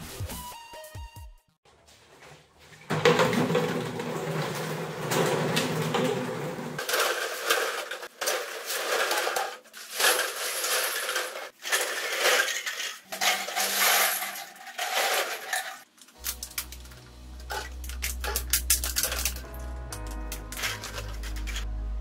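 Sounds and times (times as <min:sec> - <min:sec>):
plastic bottles clattering on tiles: 0:02.1 - 0:21.6.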